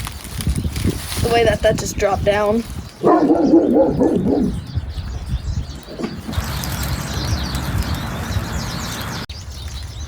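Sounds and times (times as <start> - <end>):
birds chirping: 0.6 - 10.0.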